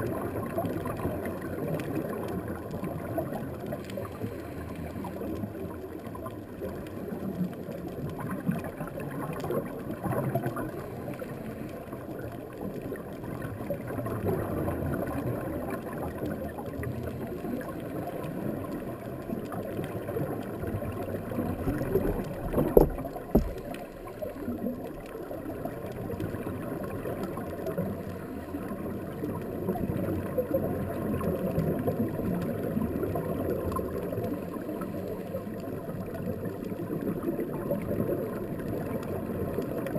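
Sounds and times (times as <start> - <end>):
diver's exhaled bubbles gurgling: 0.0 - 39.9.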